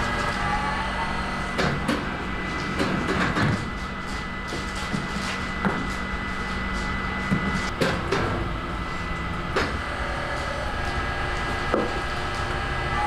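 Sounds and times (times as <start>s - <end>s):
oven machinery humming: 0.0s - 13.0s.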